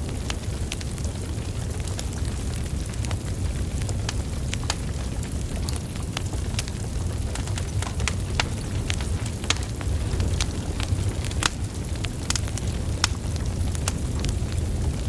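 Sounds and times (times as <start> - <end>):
fire rumbling: 0.0 - 15.0
logs crackling and popping: 0.0 - 15.0.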